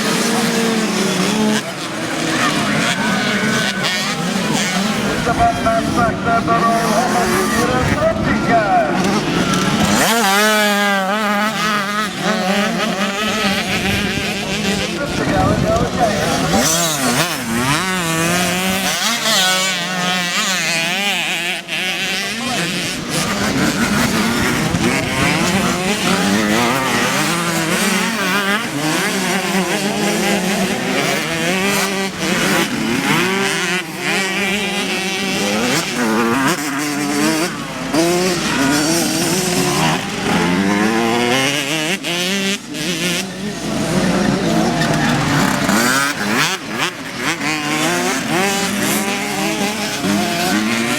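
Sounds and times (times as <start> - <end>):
motocross bikes revving: 0.0 - 50.9.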